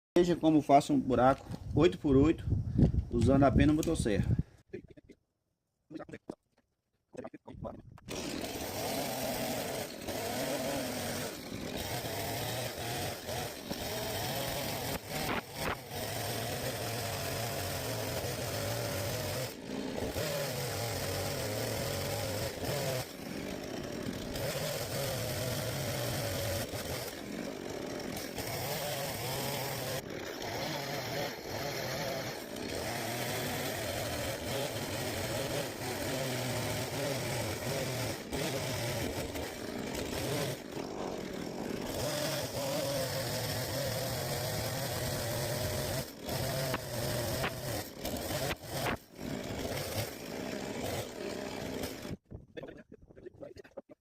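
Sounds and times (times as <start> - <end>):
chainsaw cutting: 3.0 - 4.5, 7.8 - 52.8.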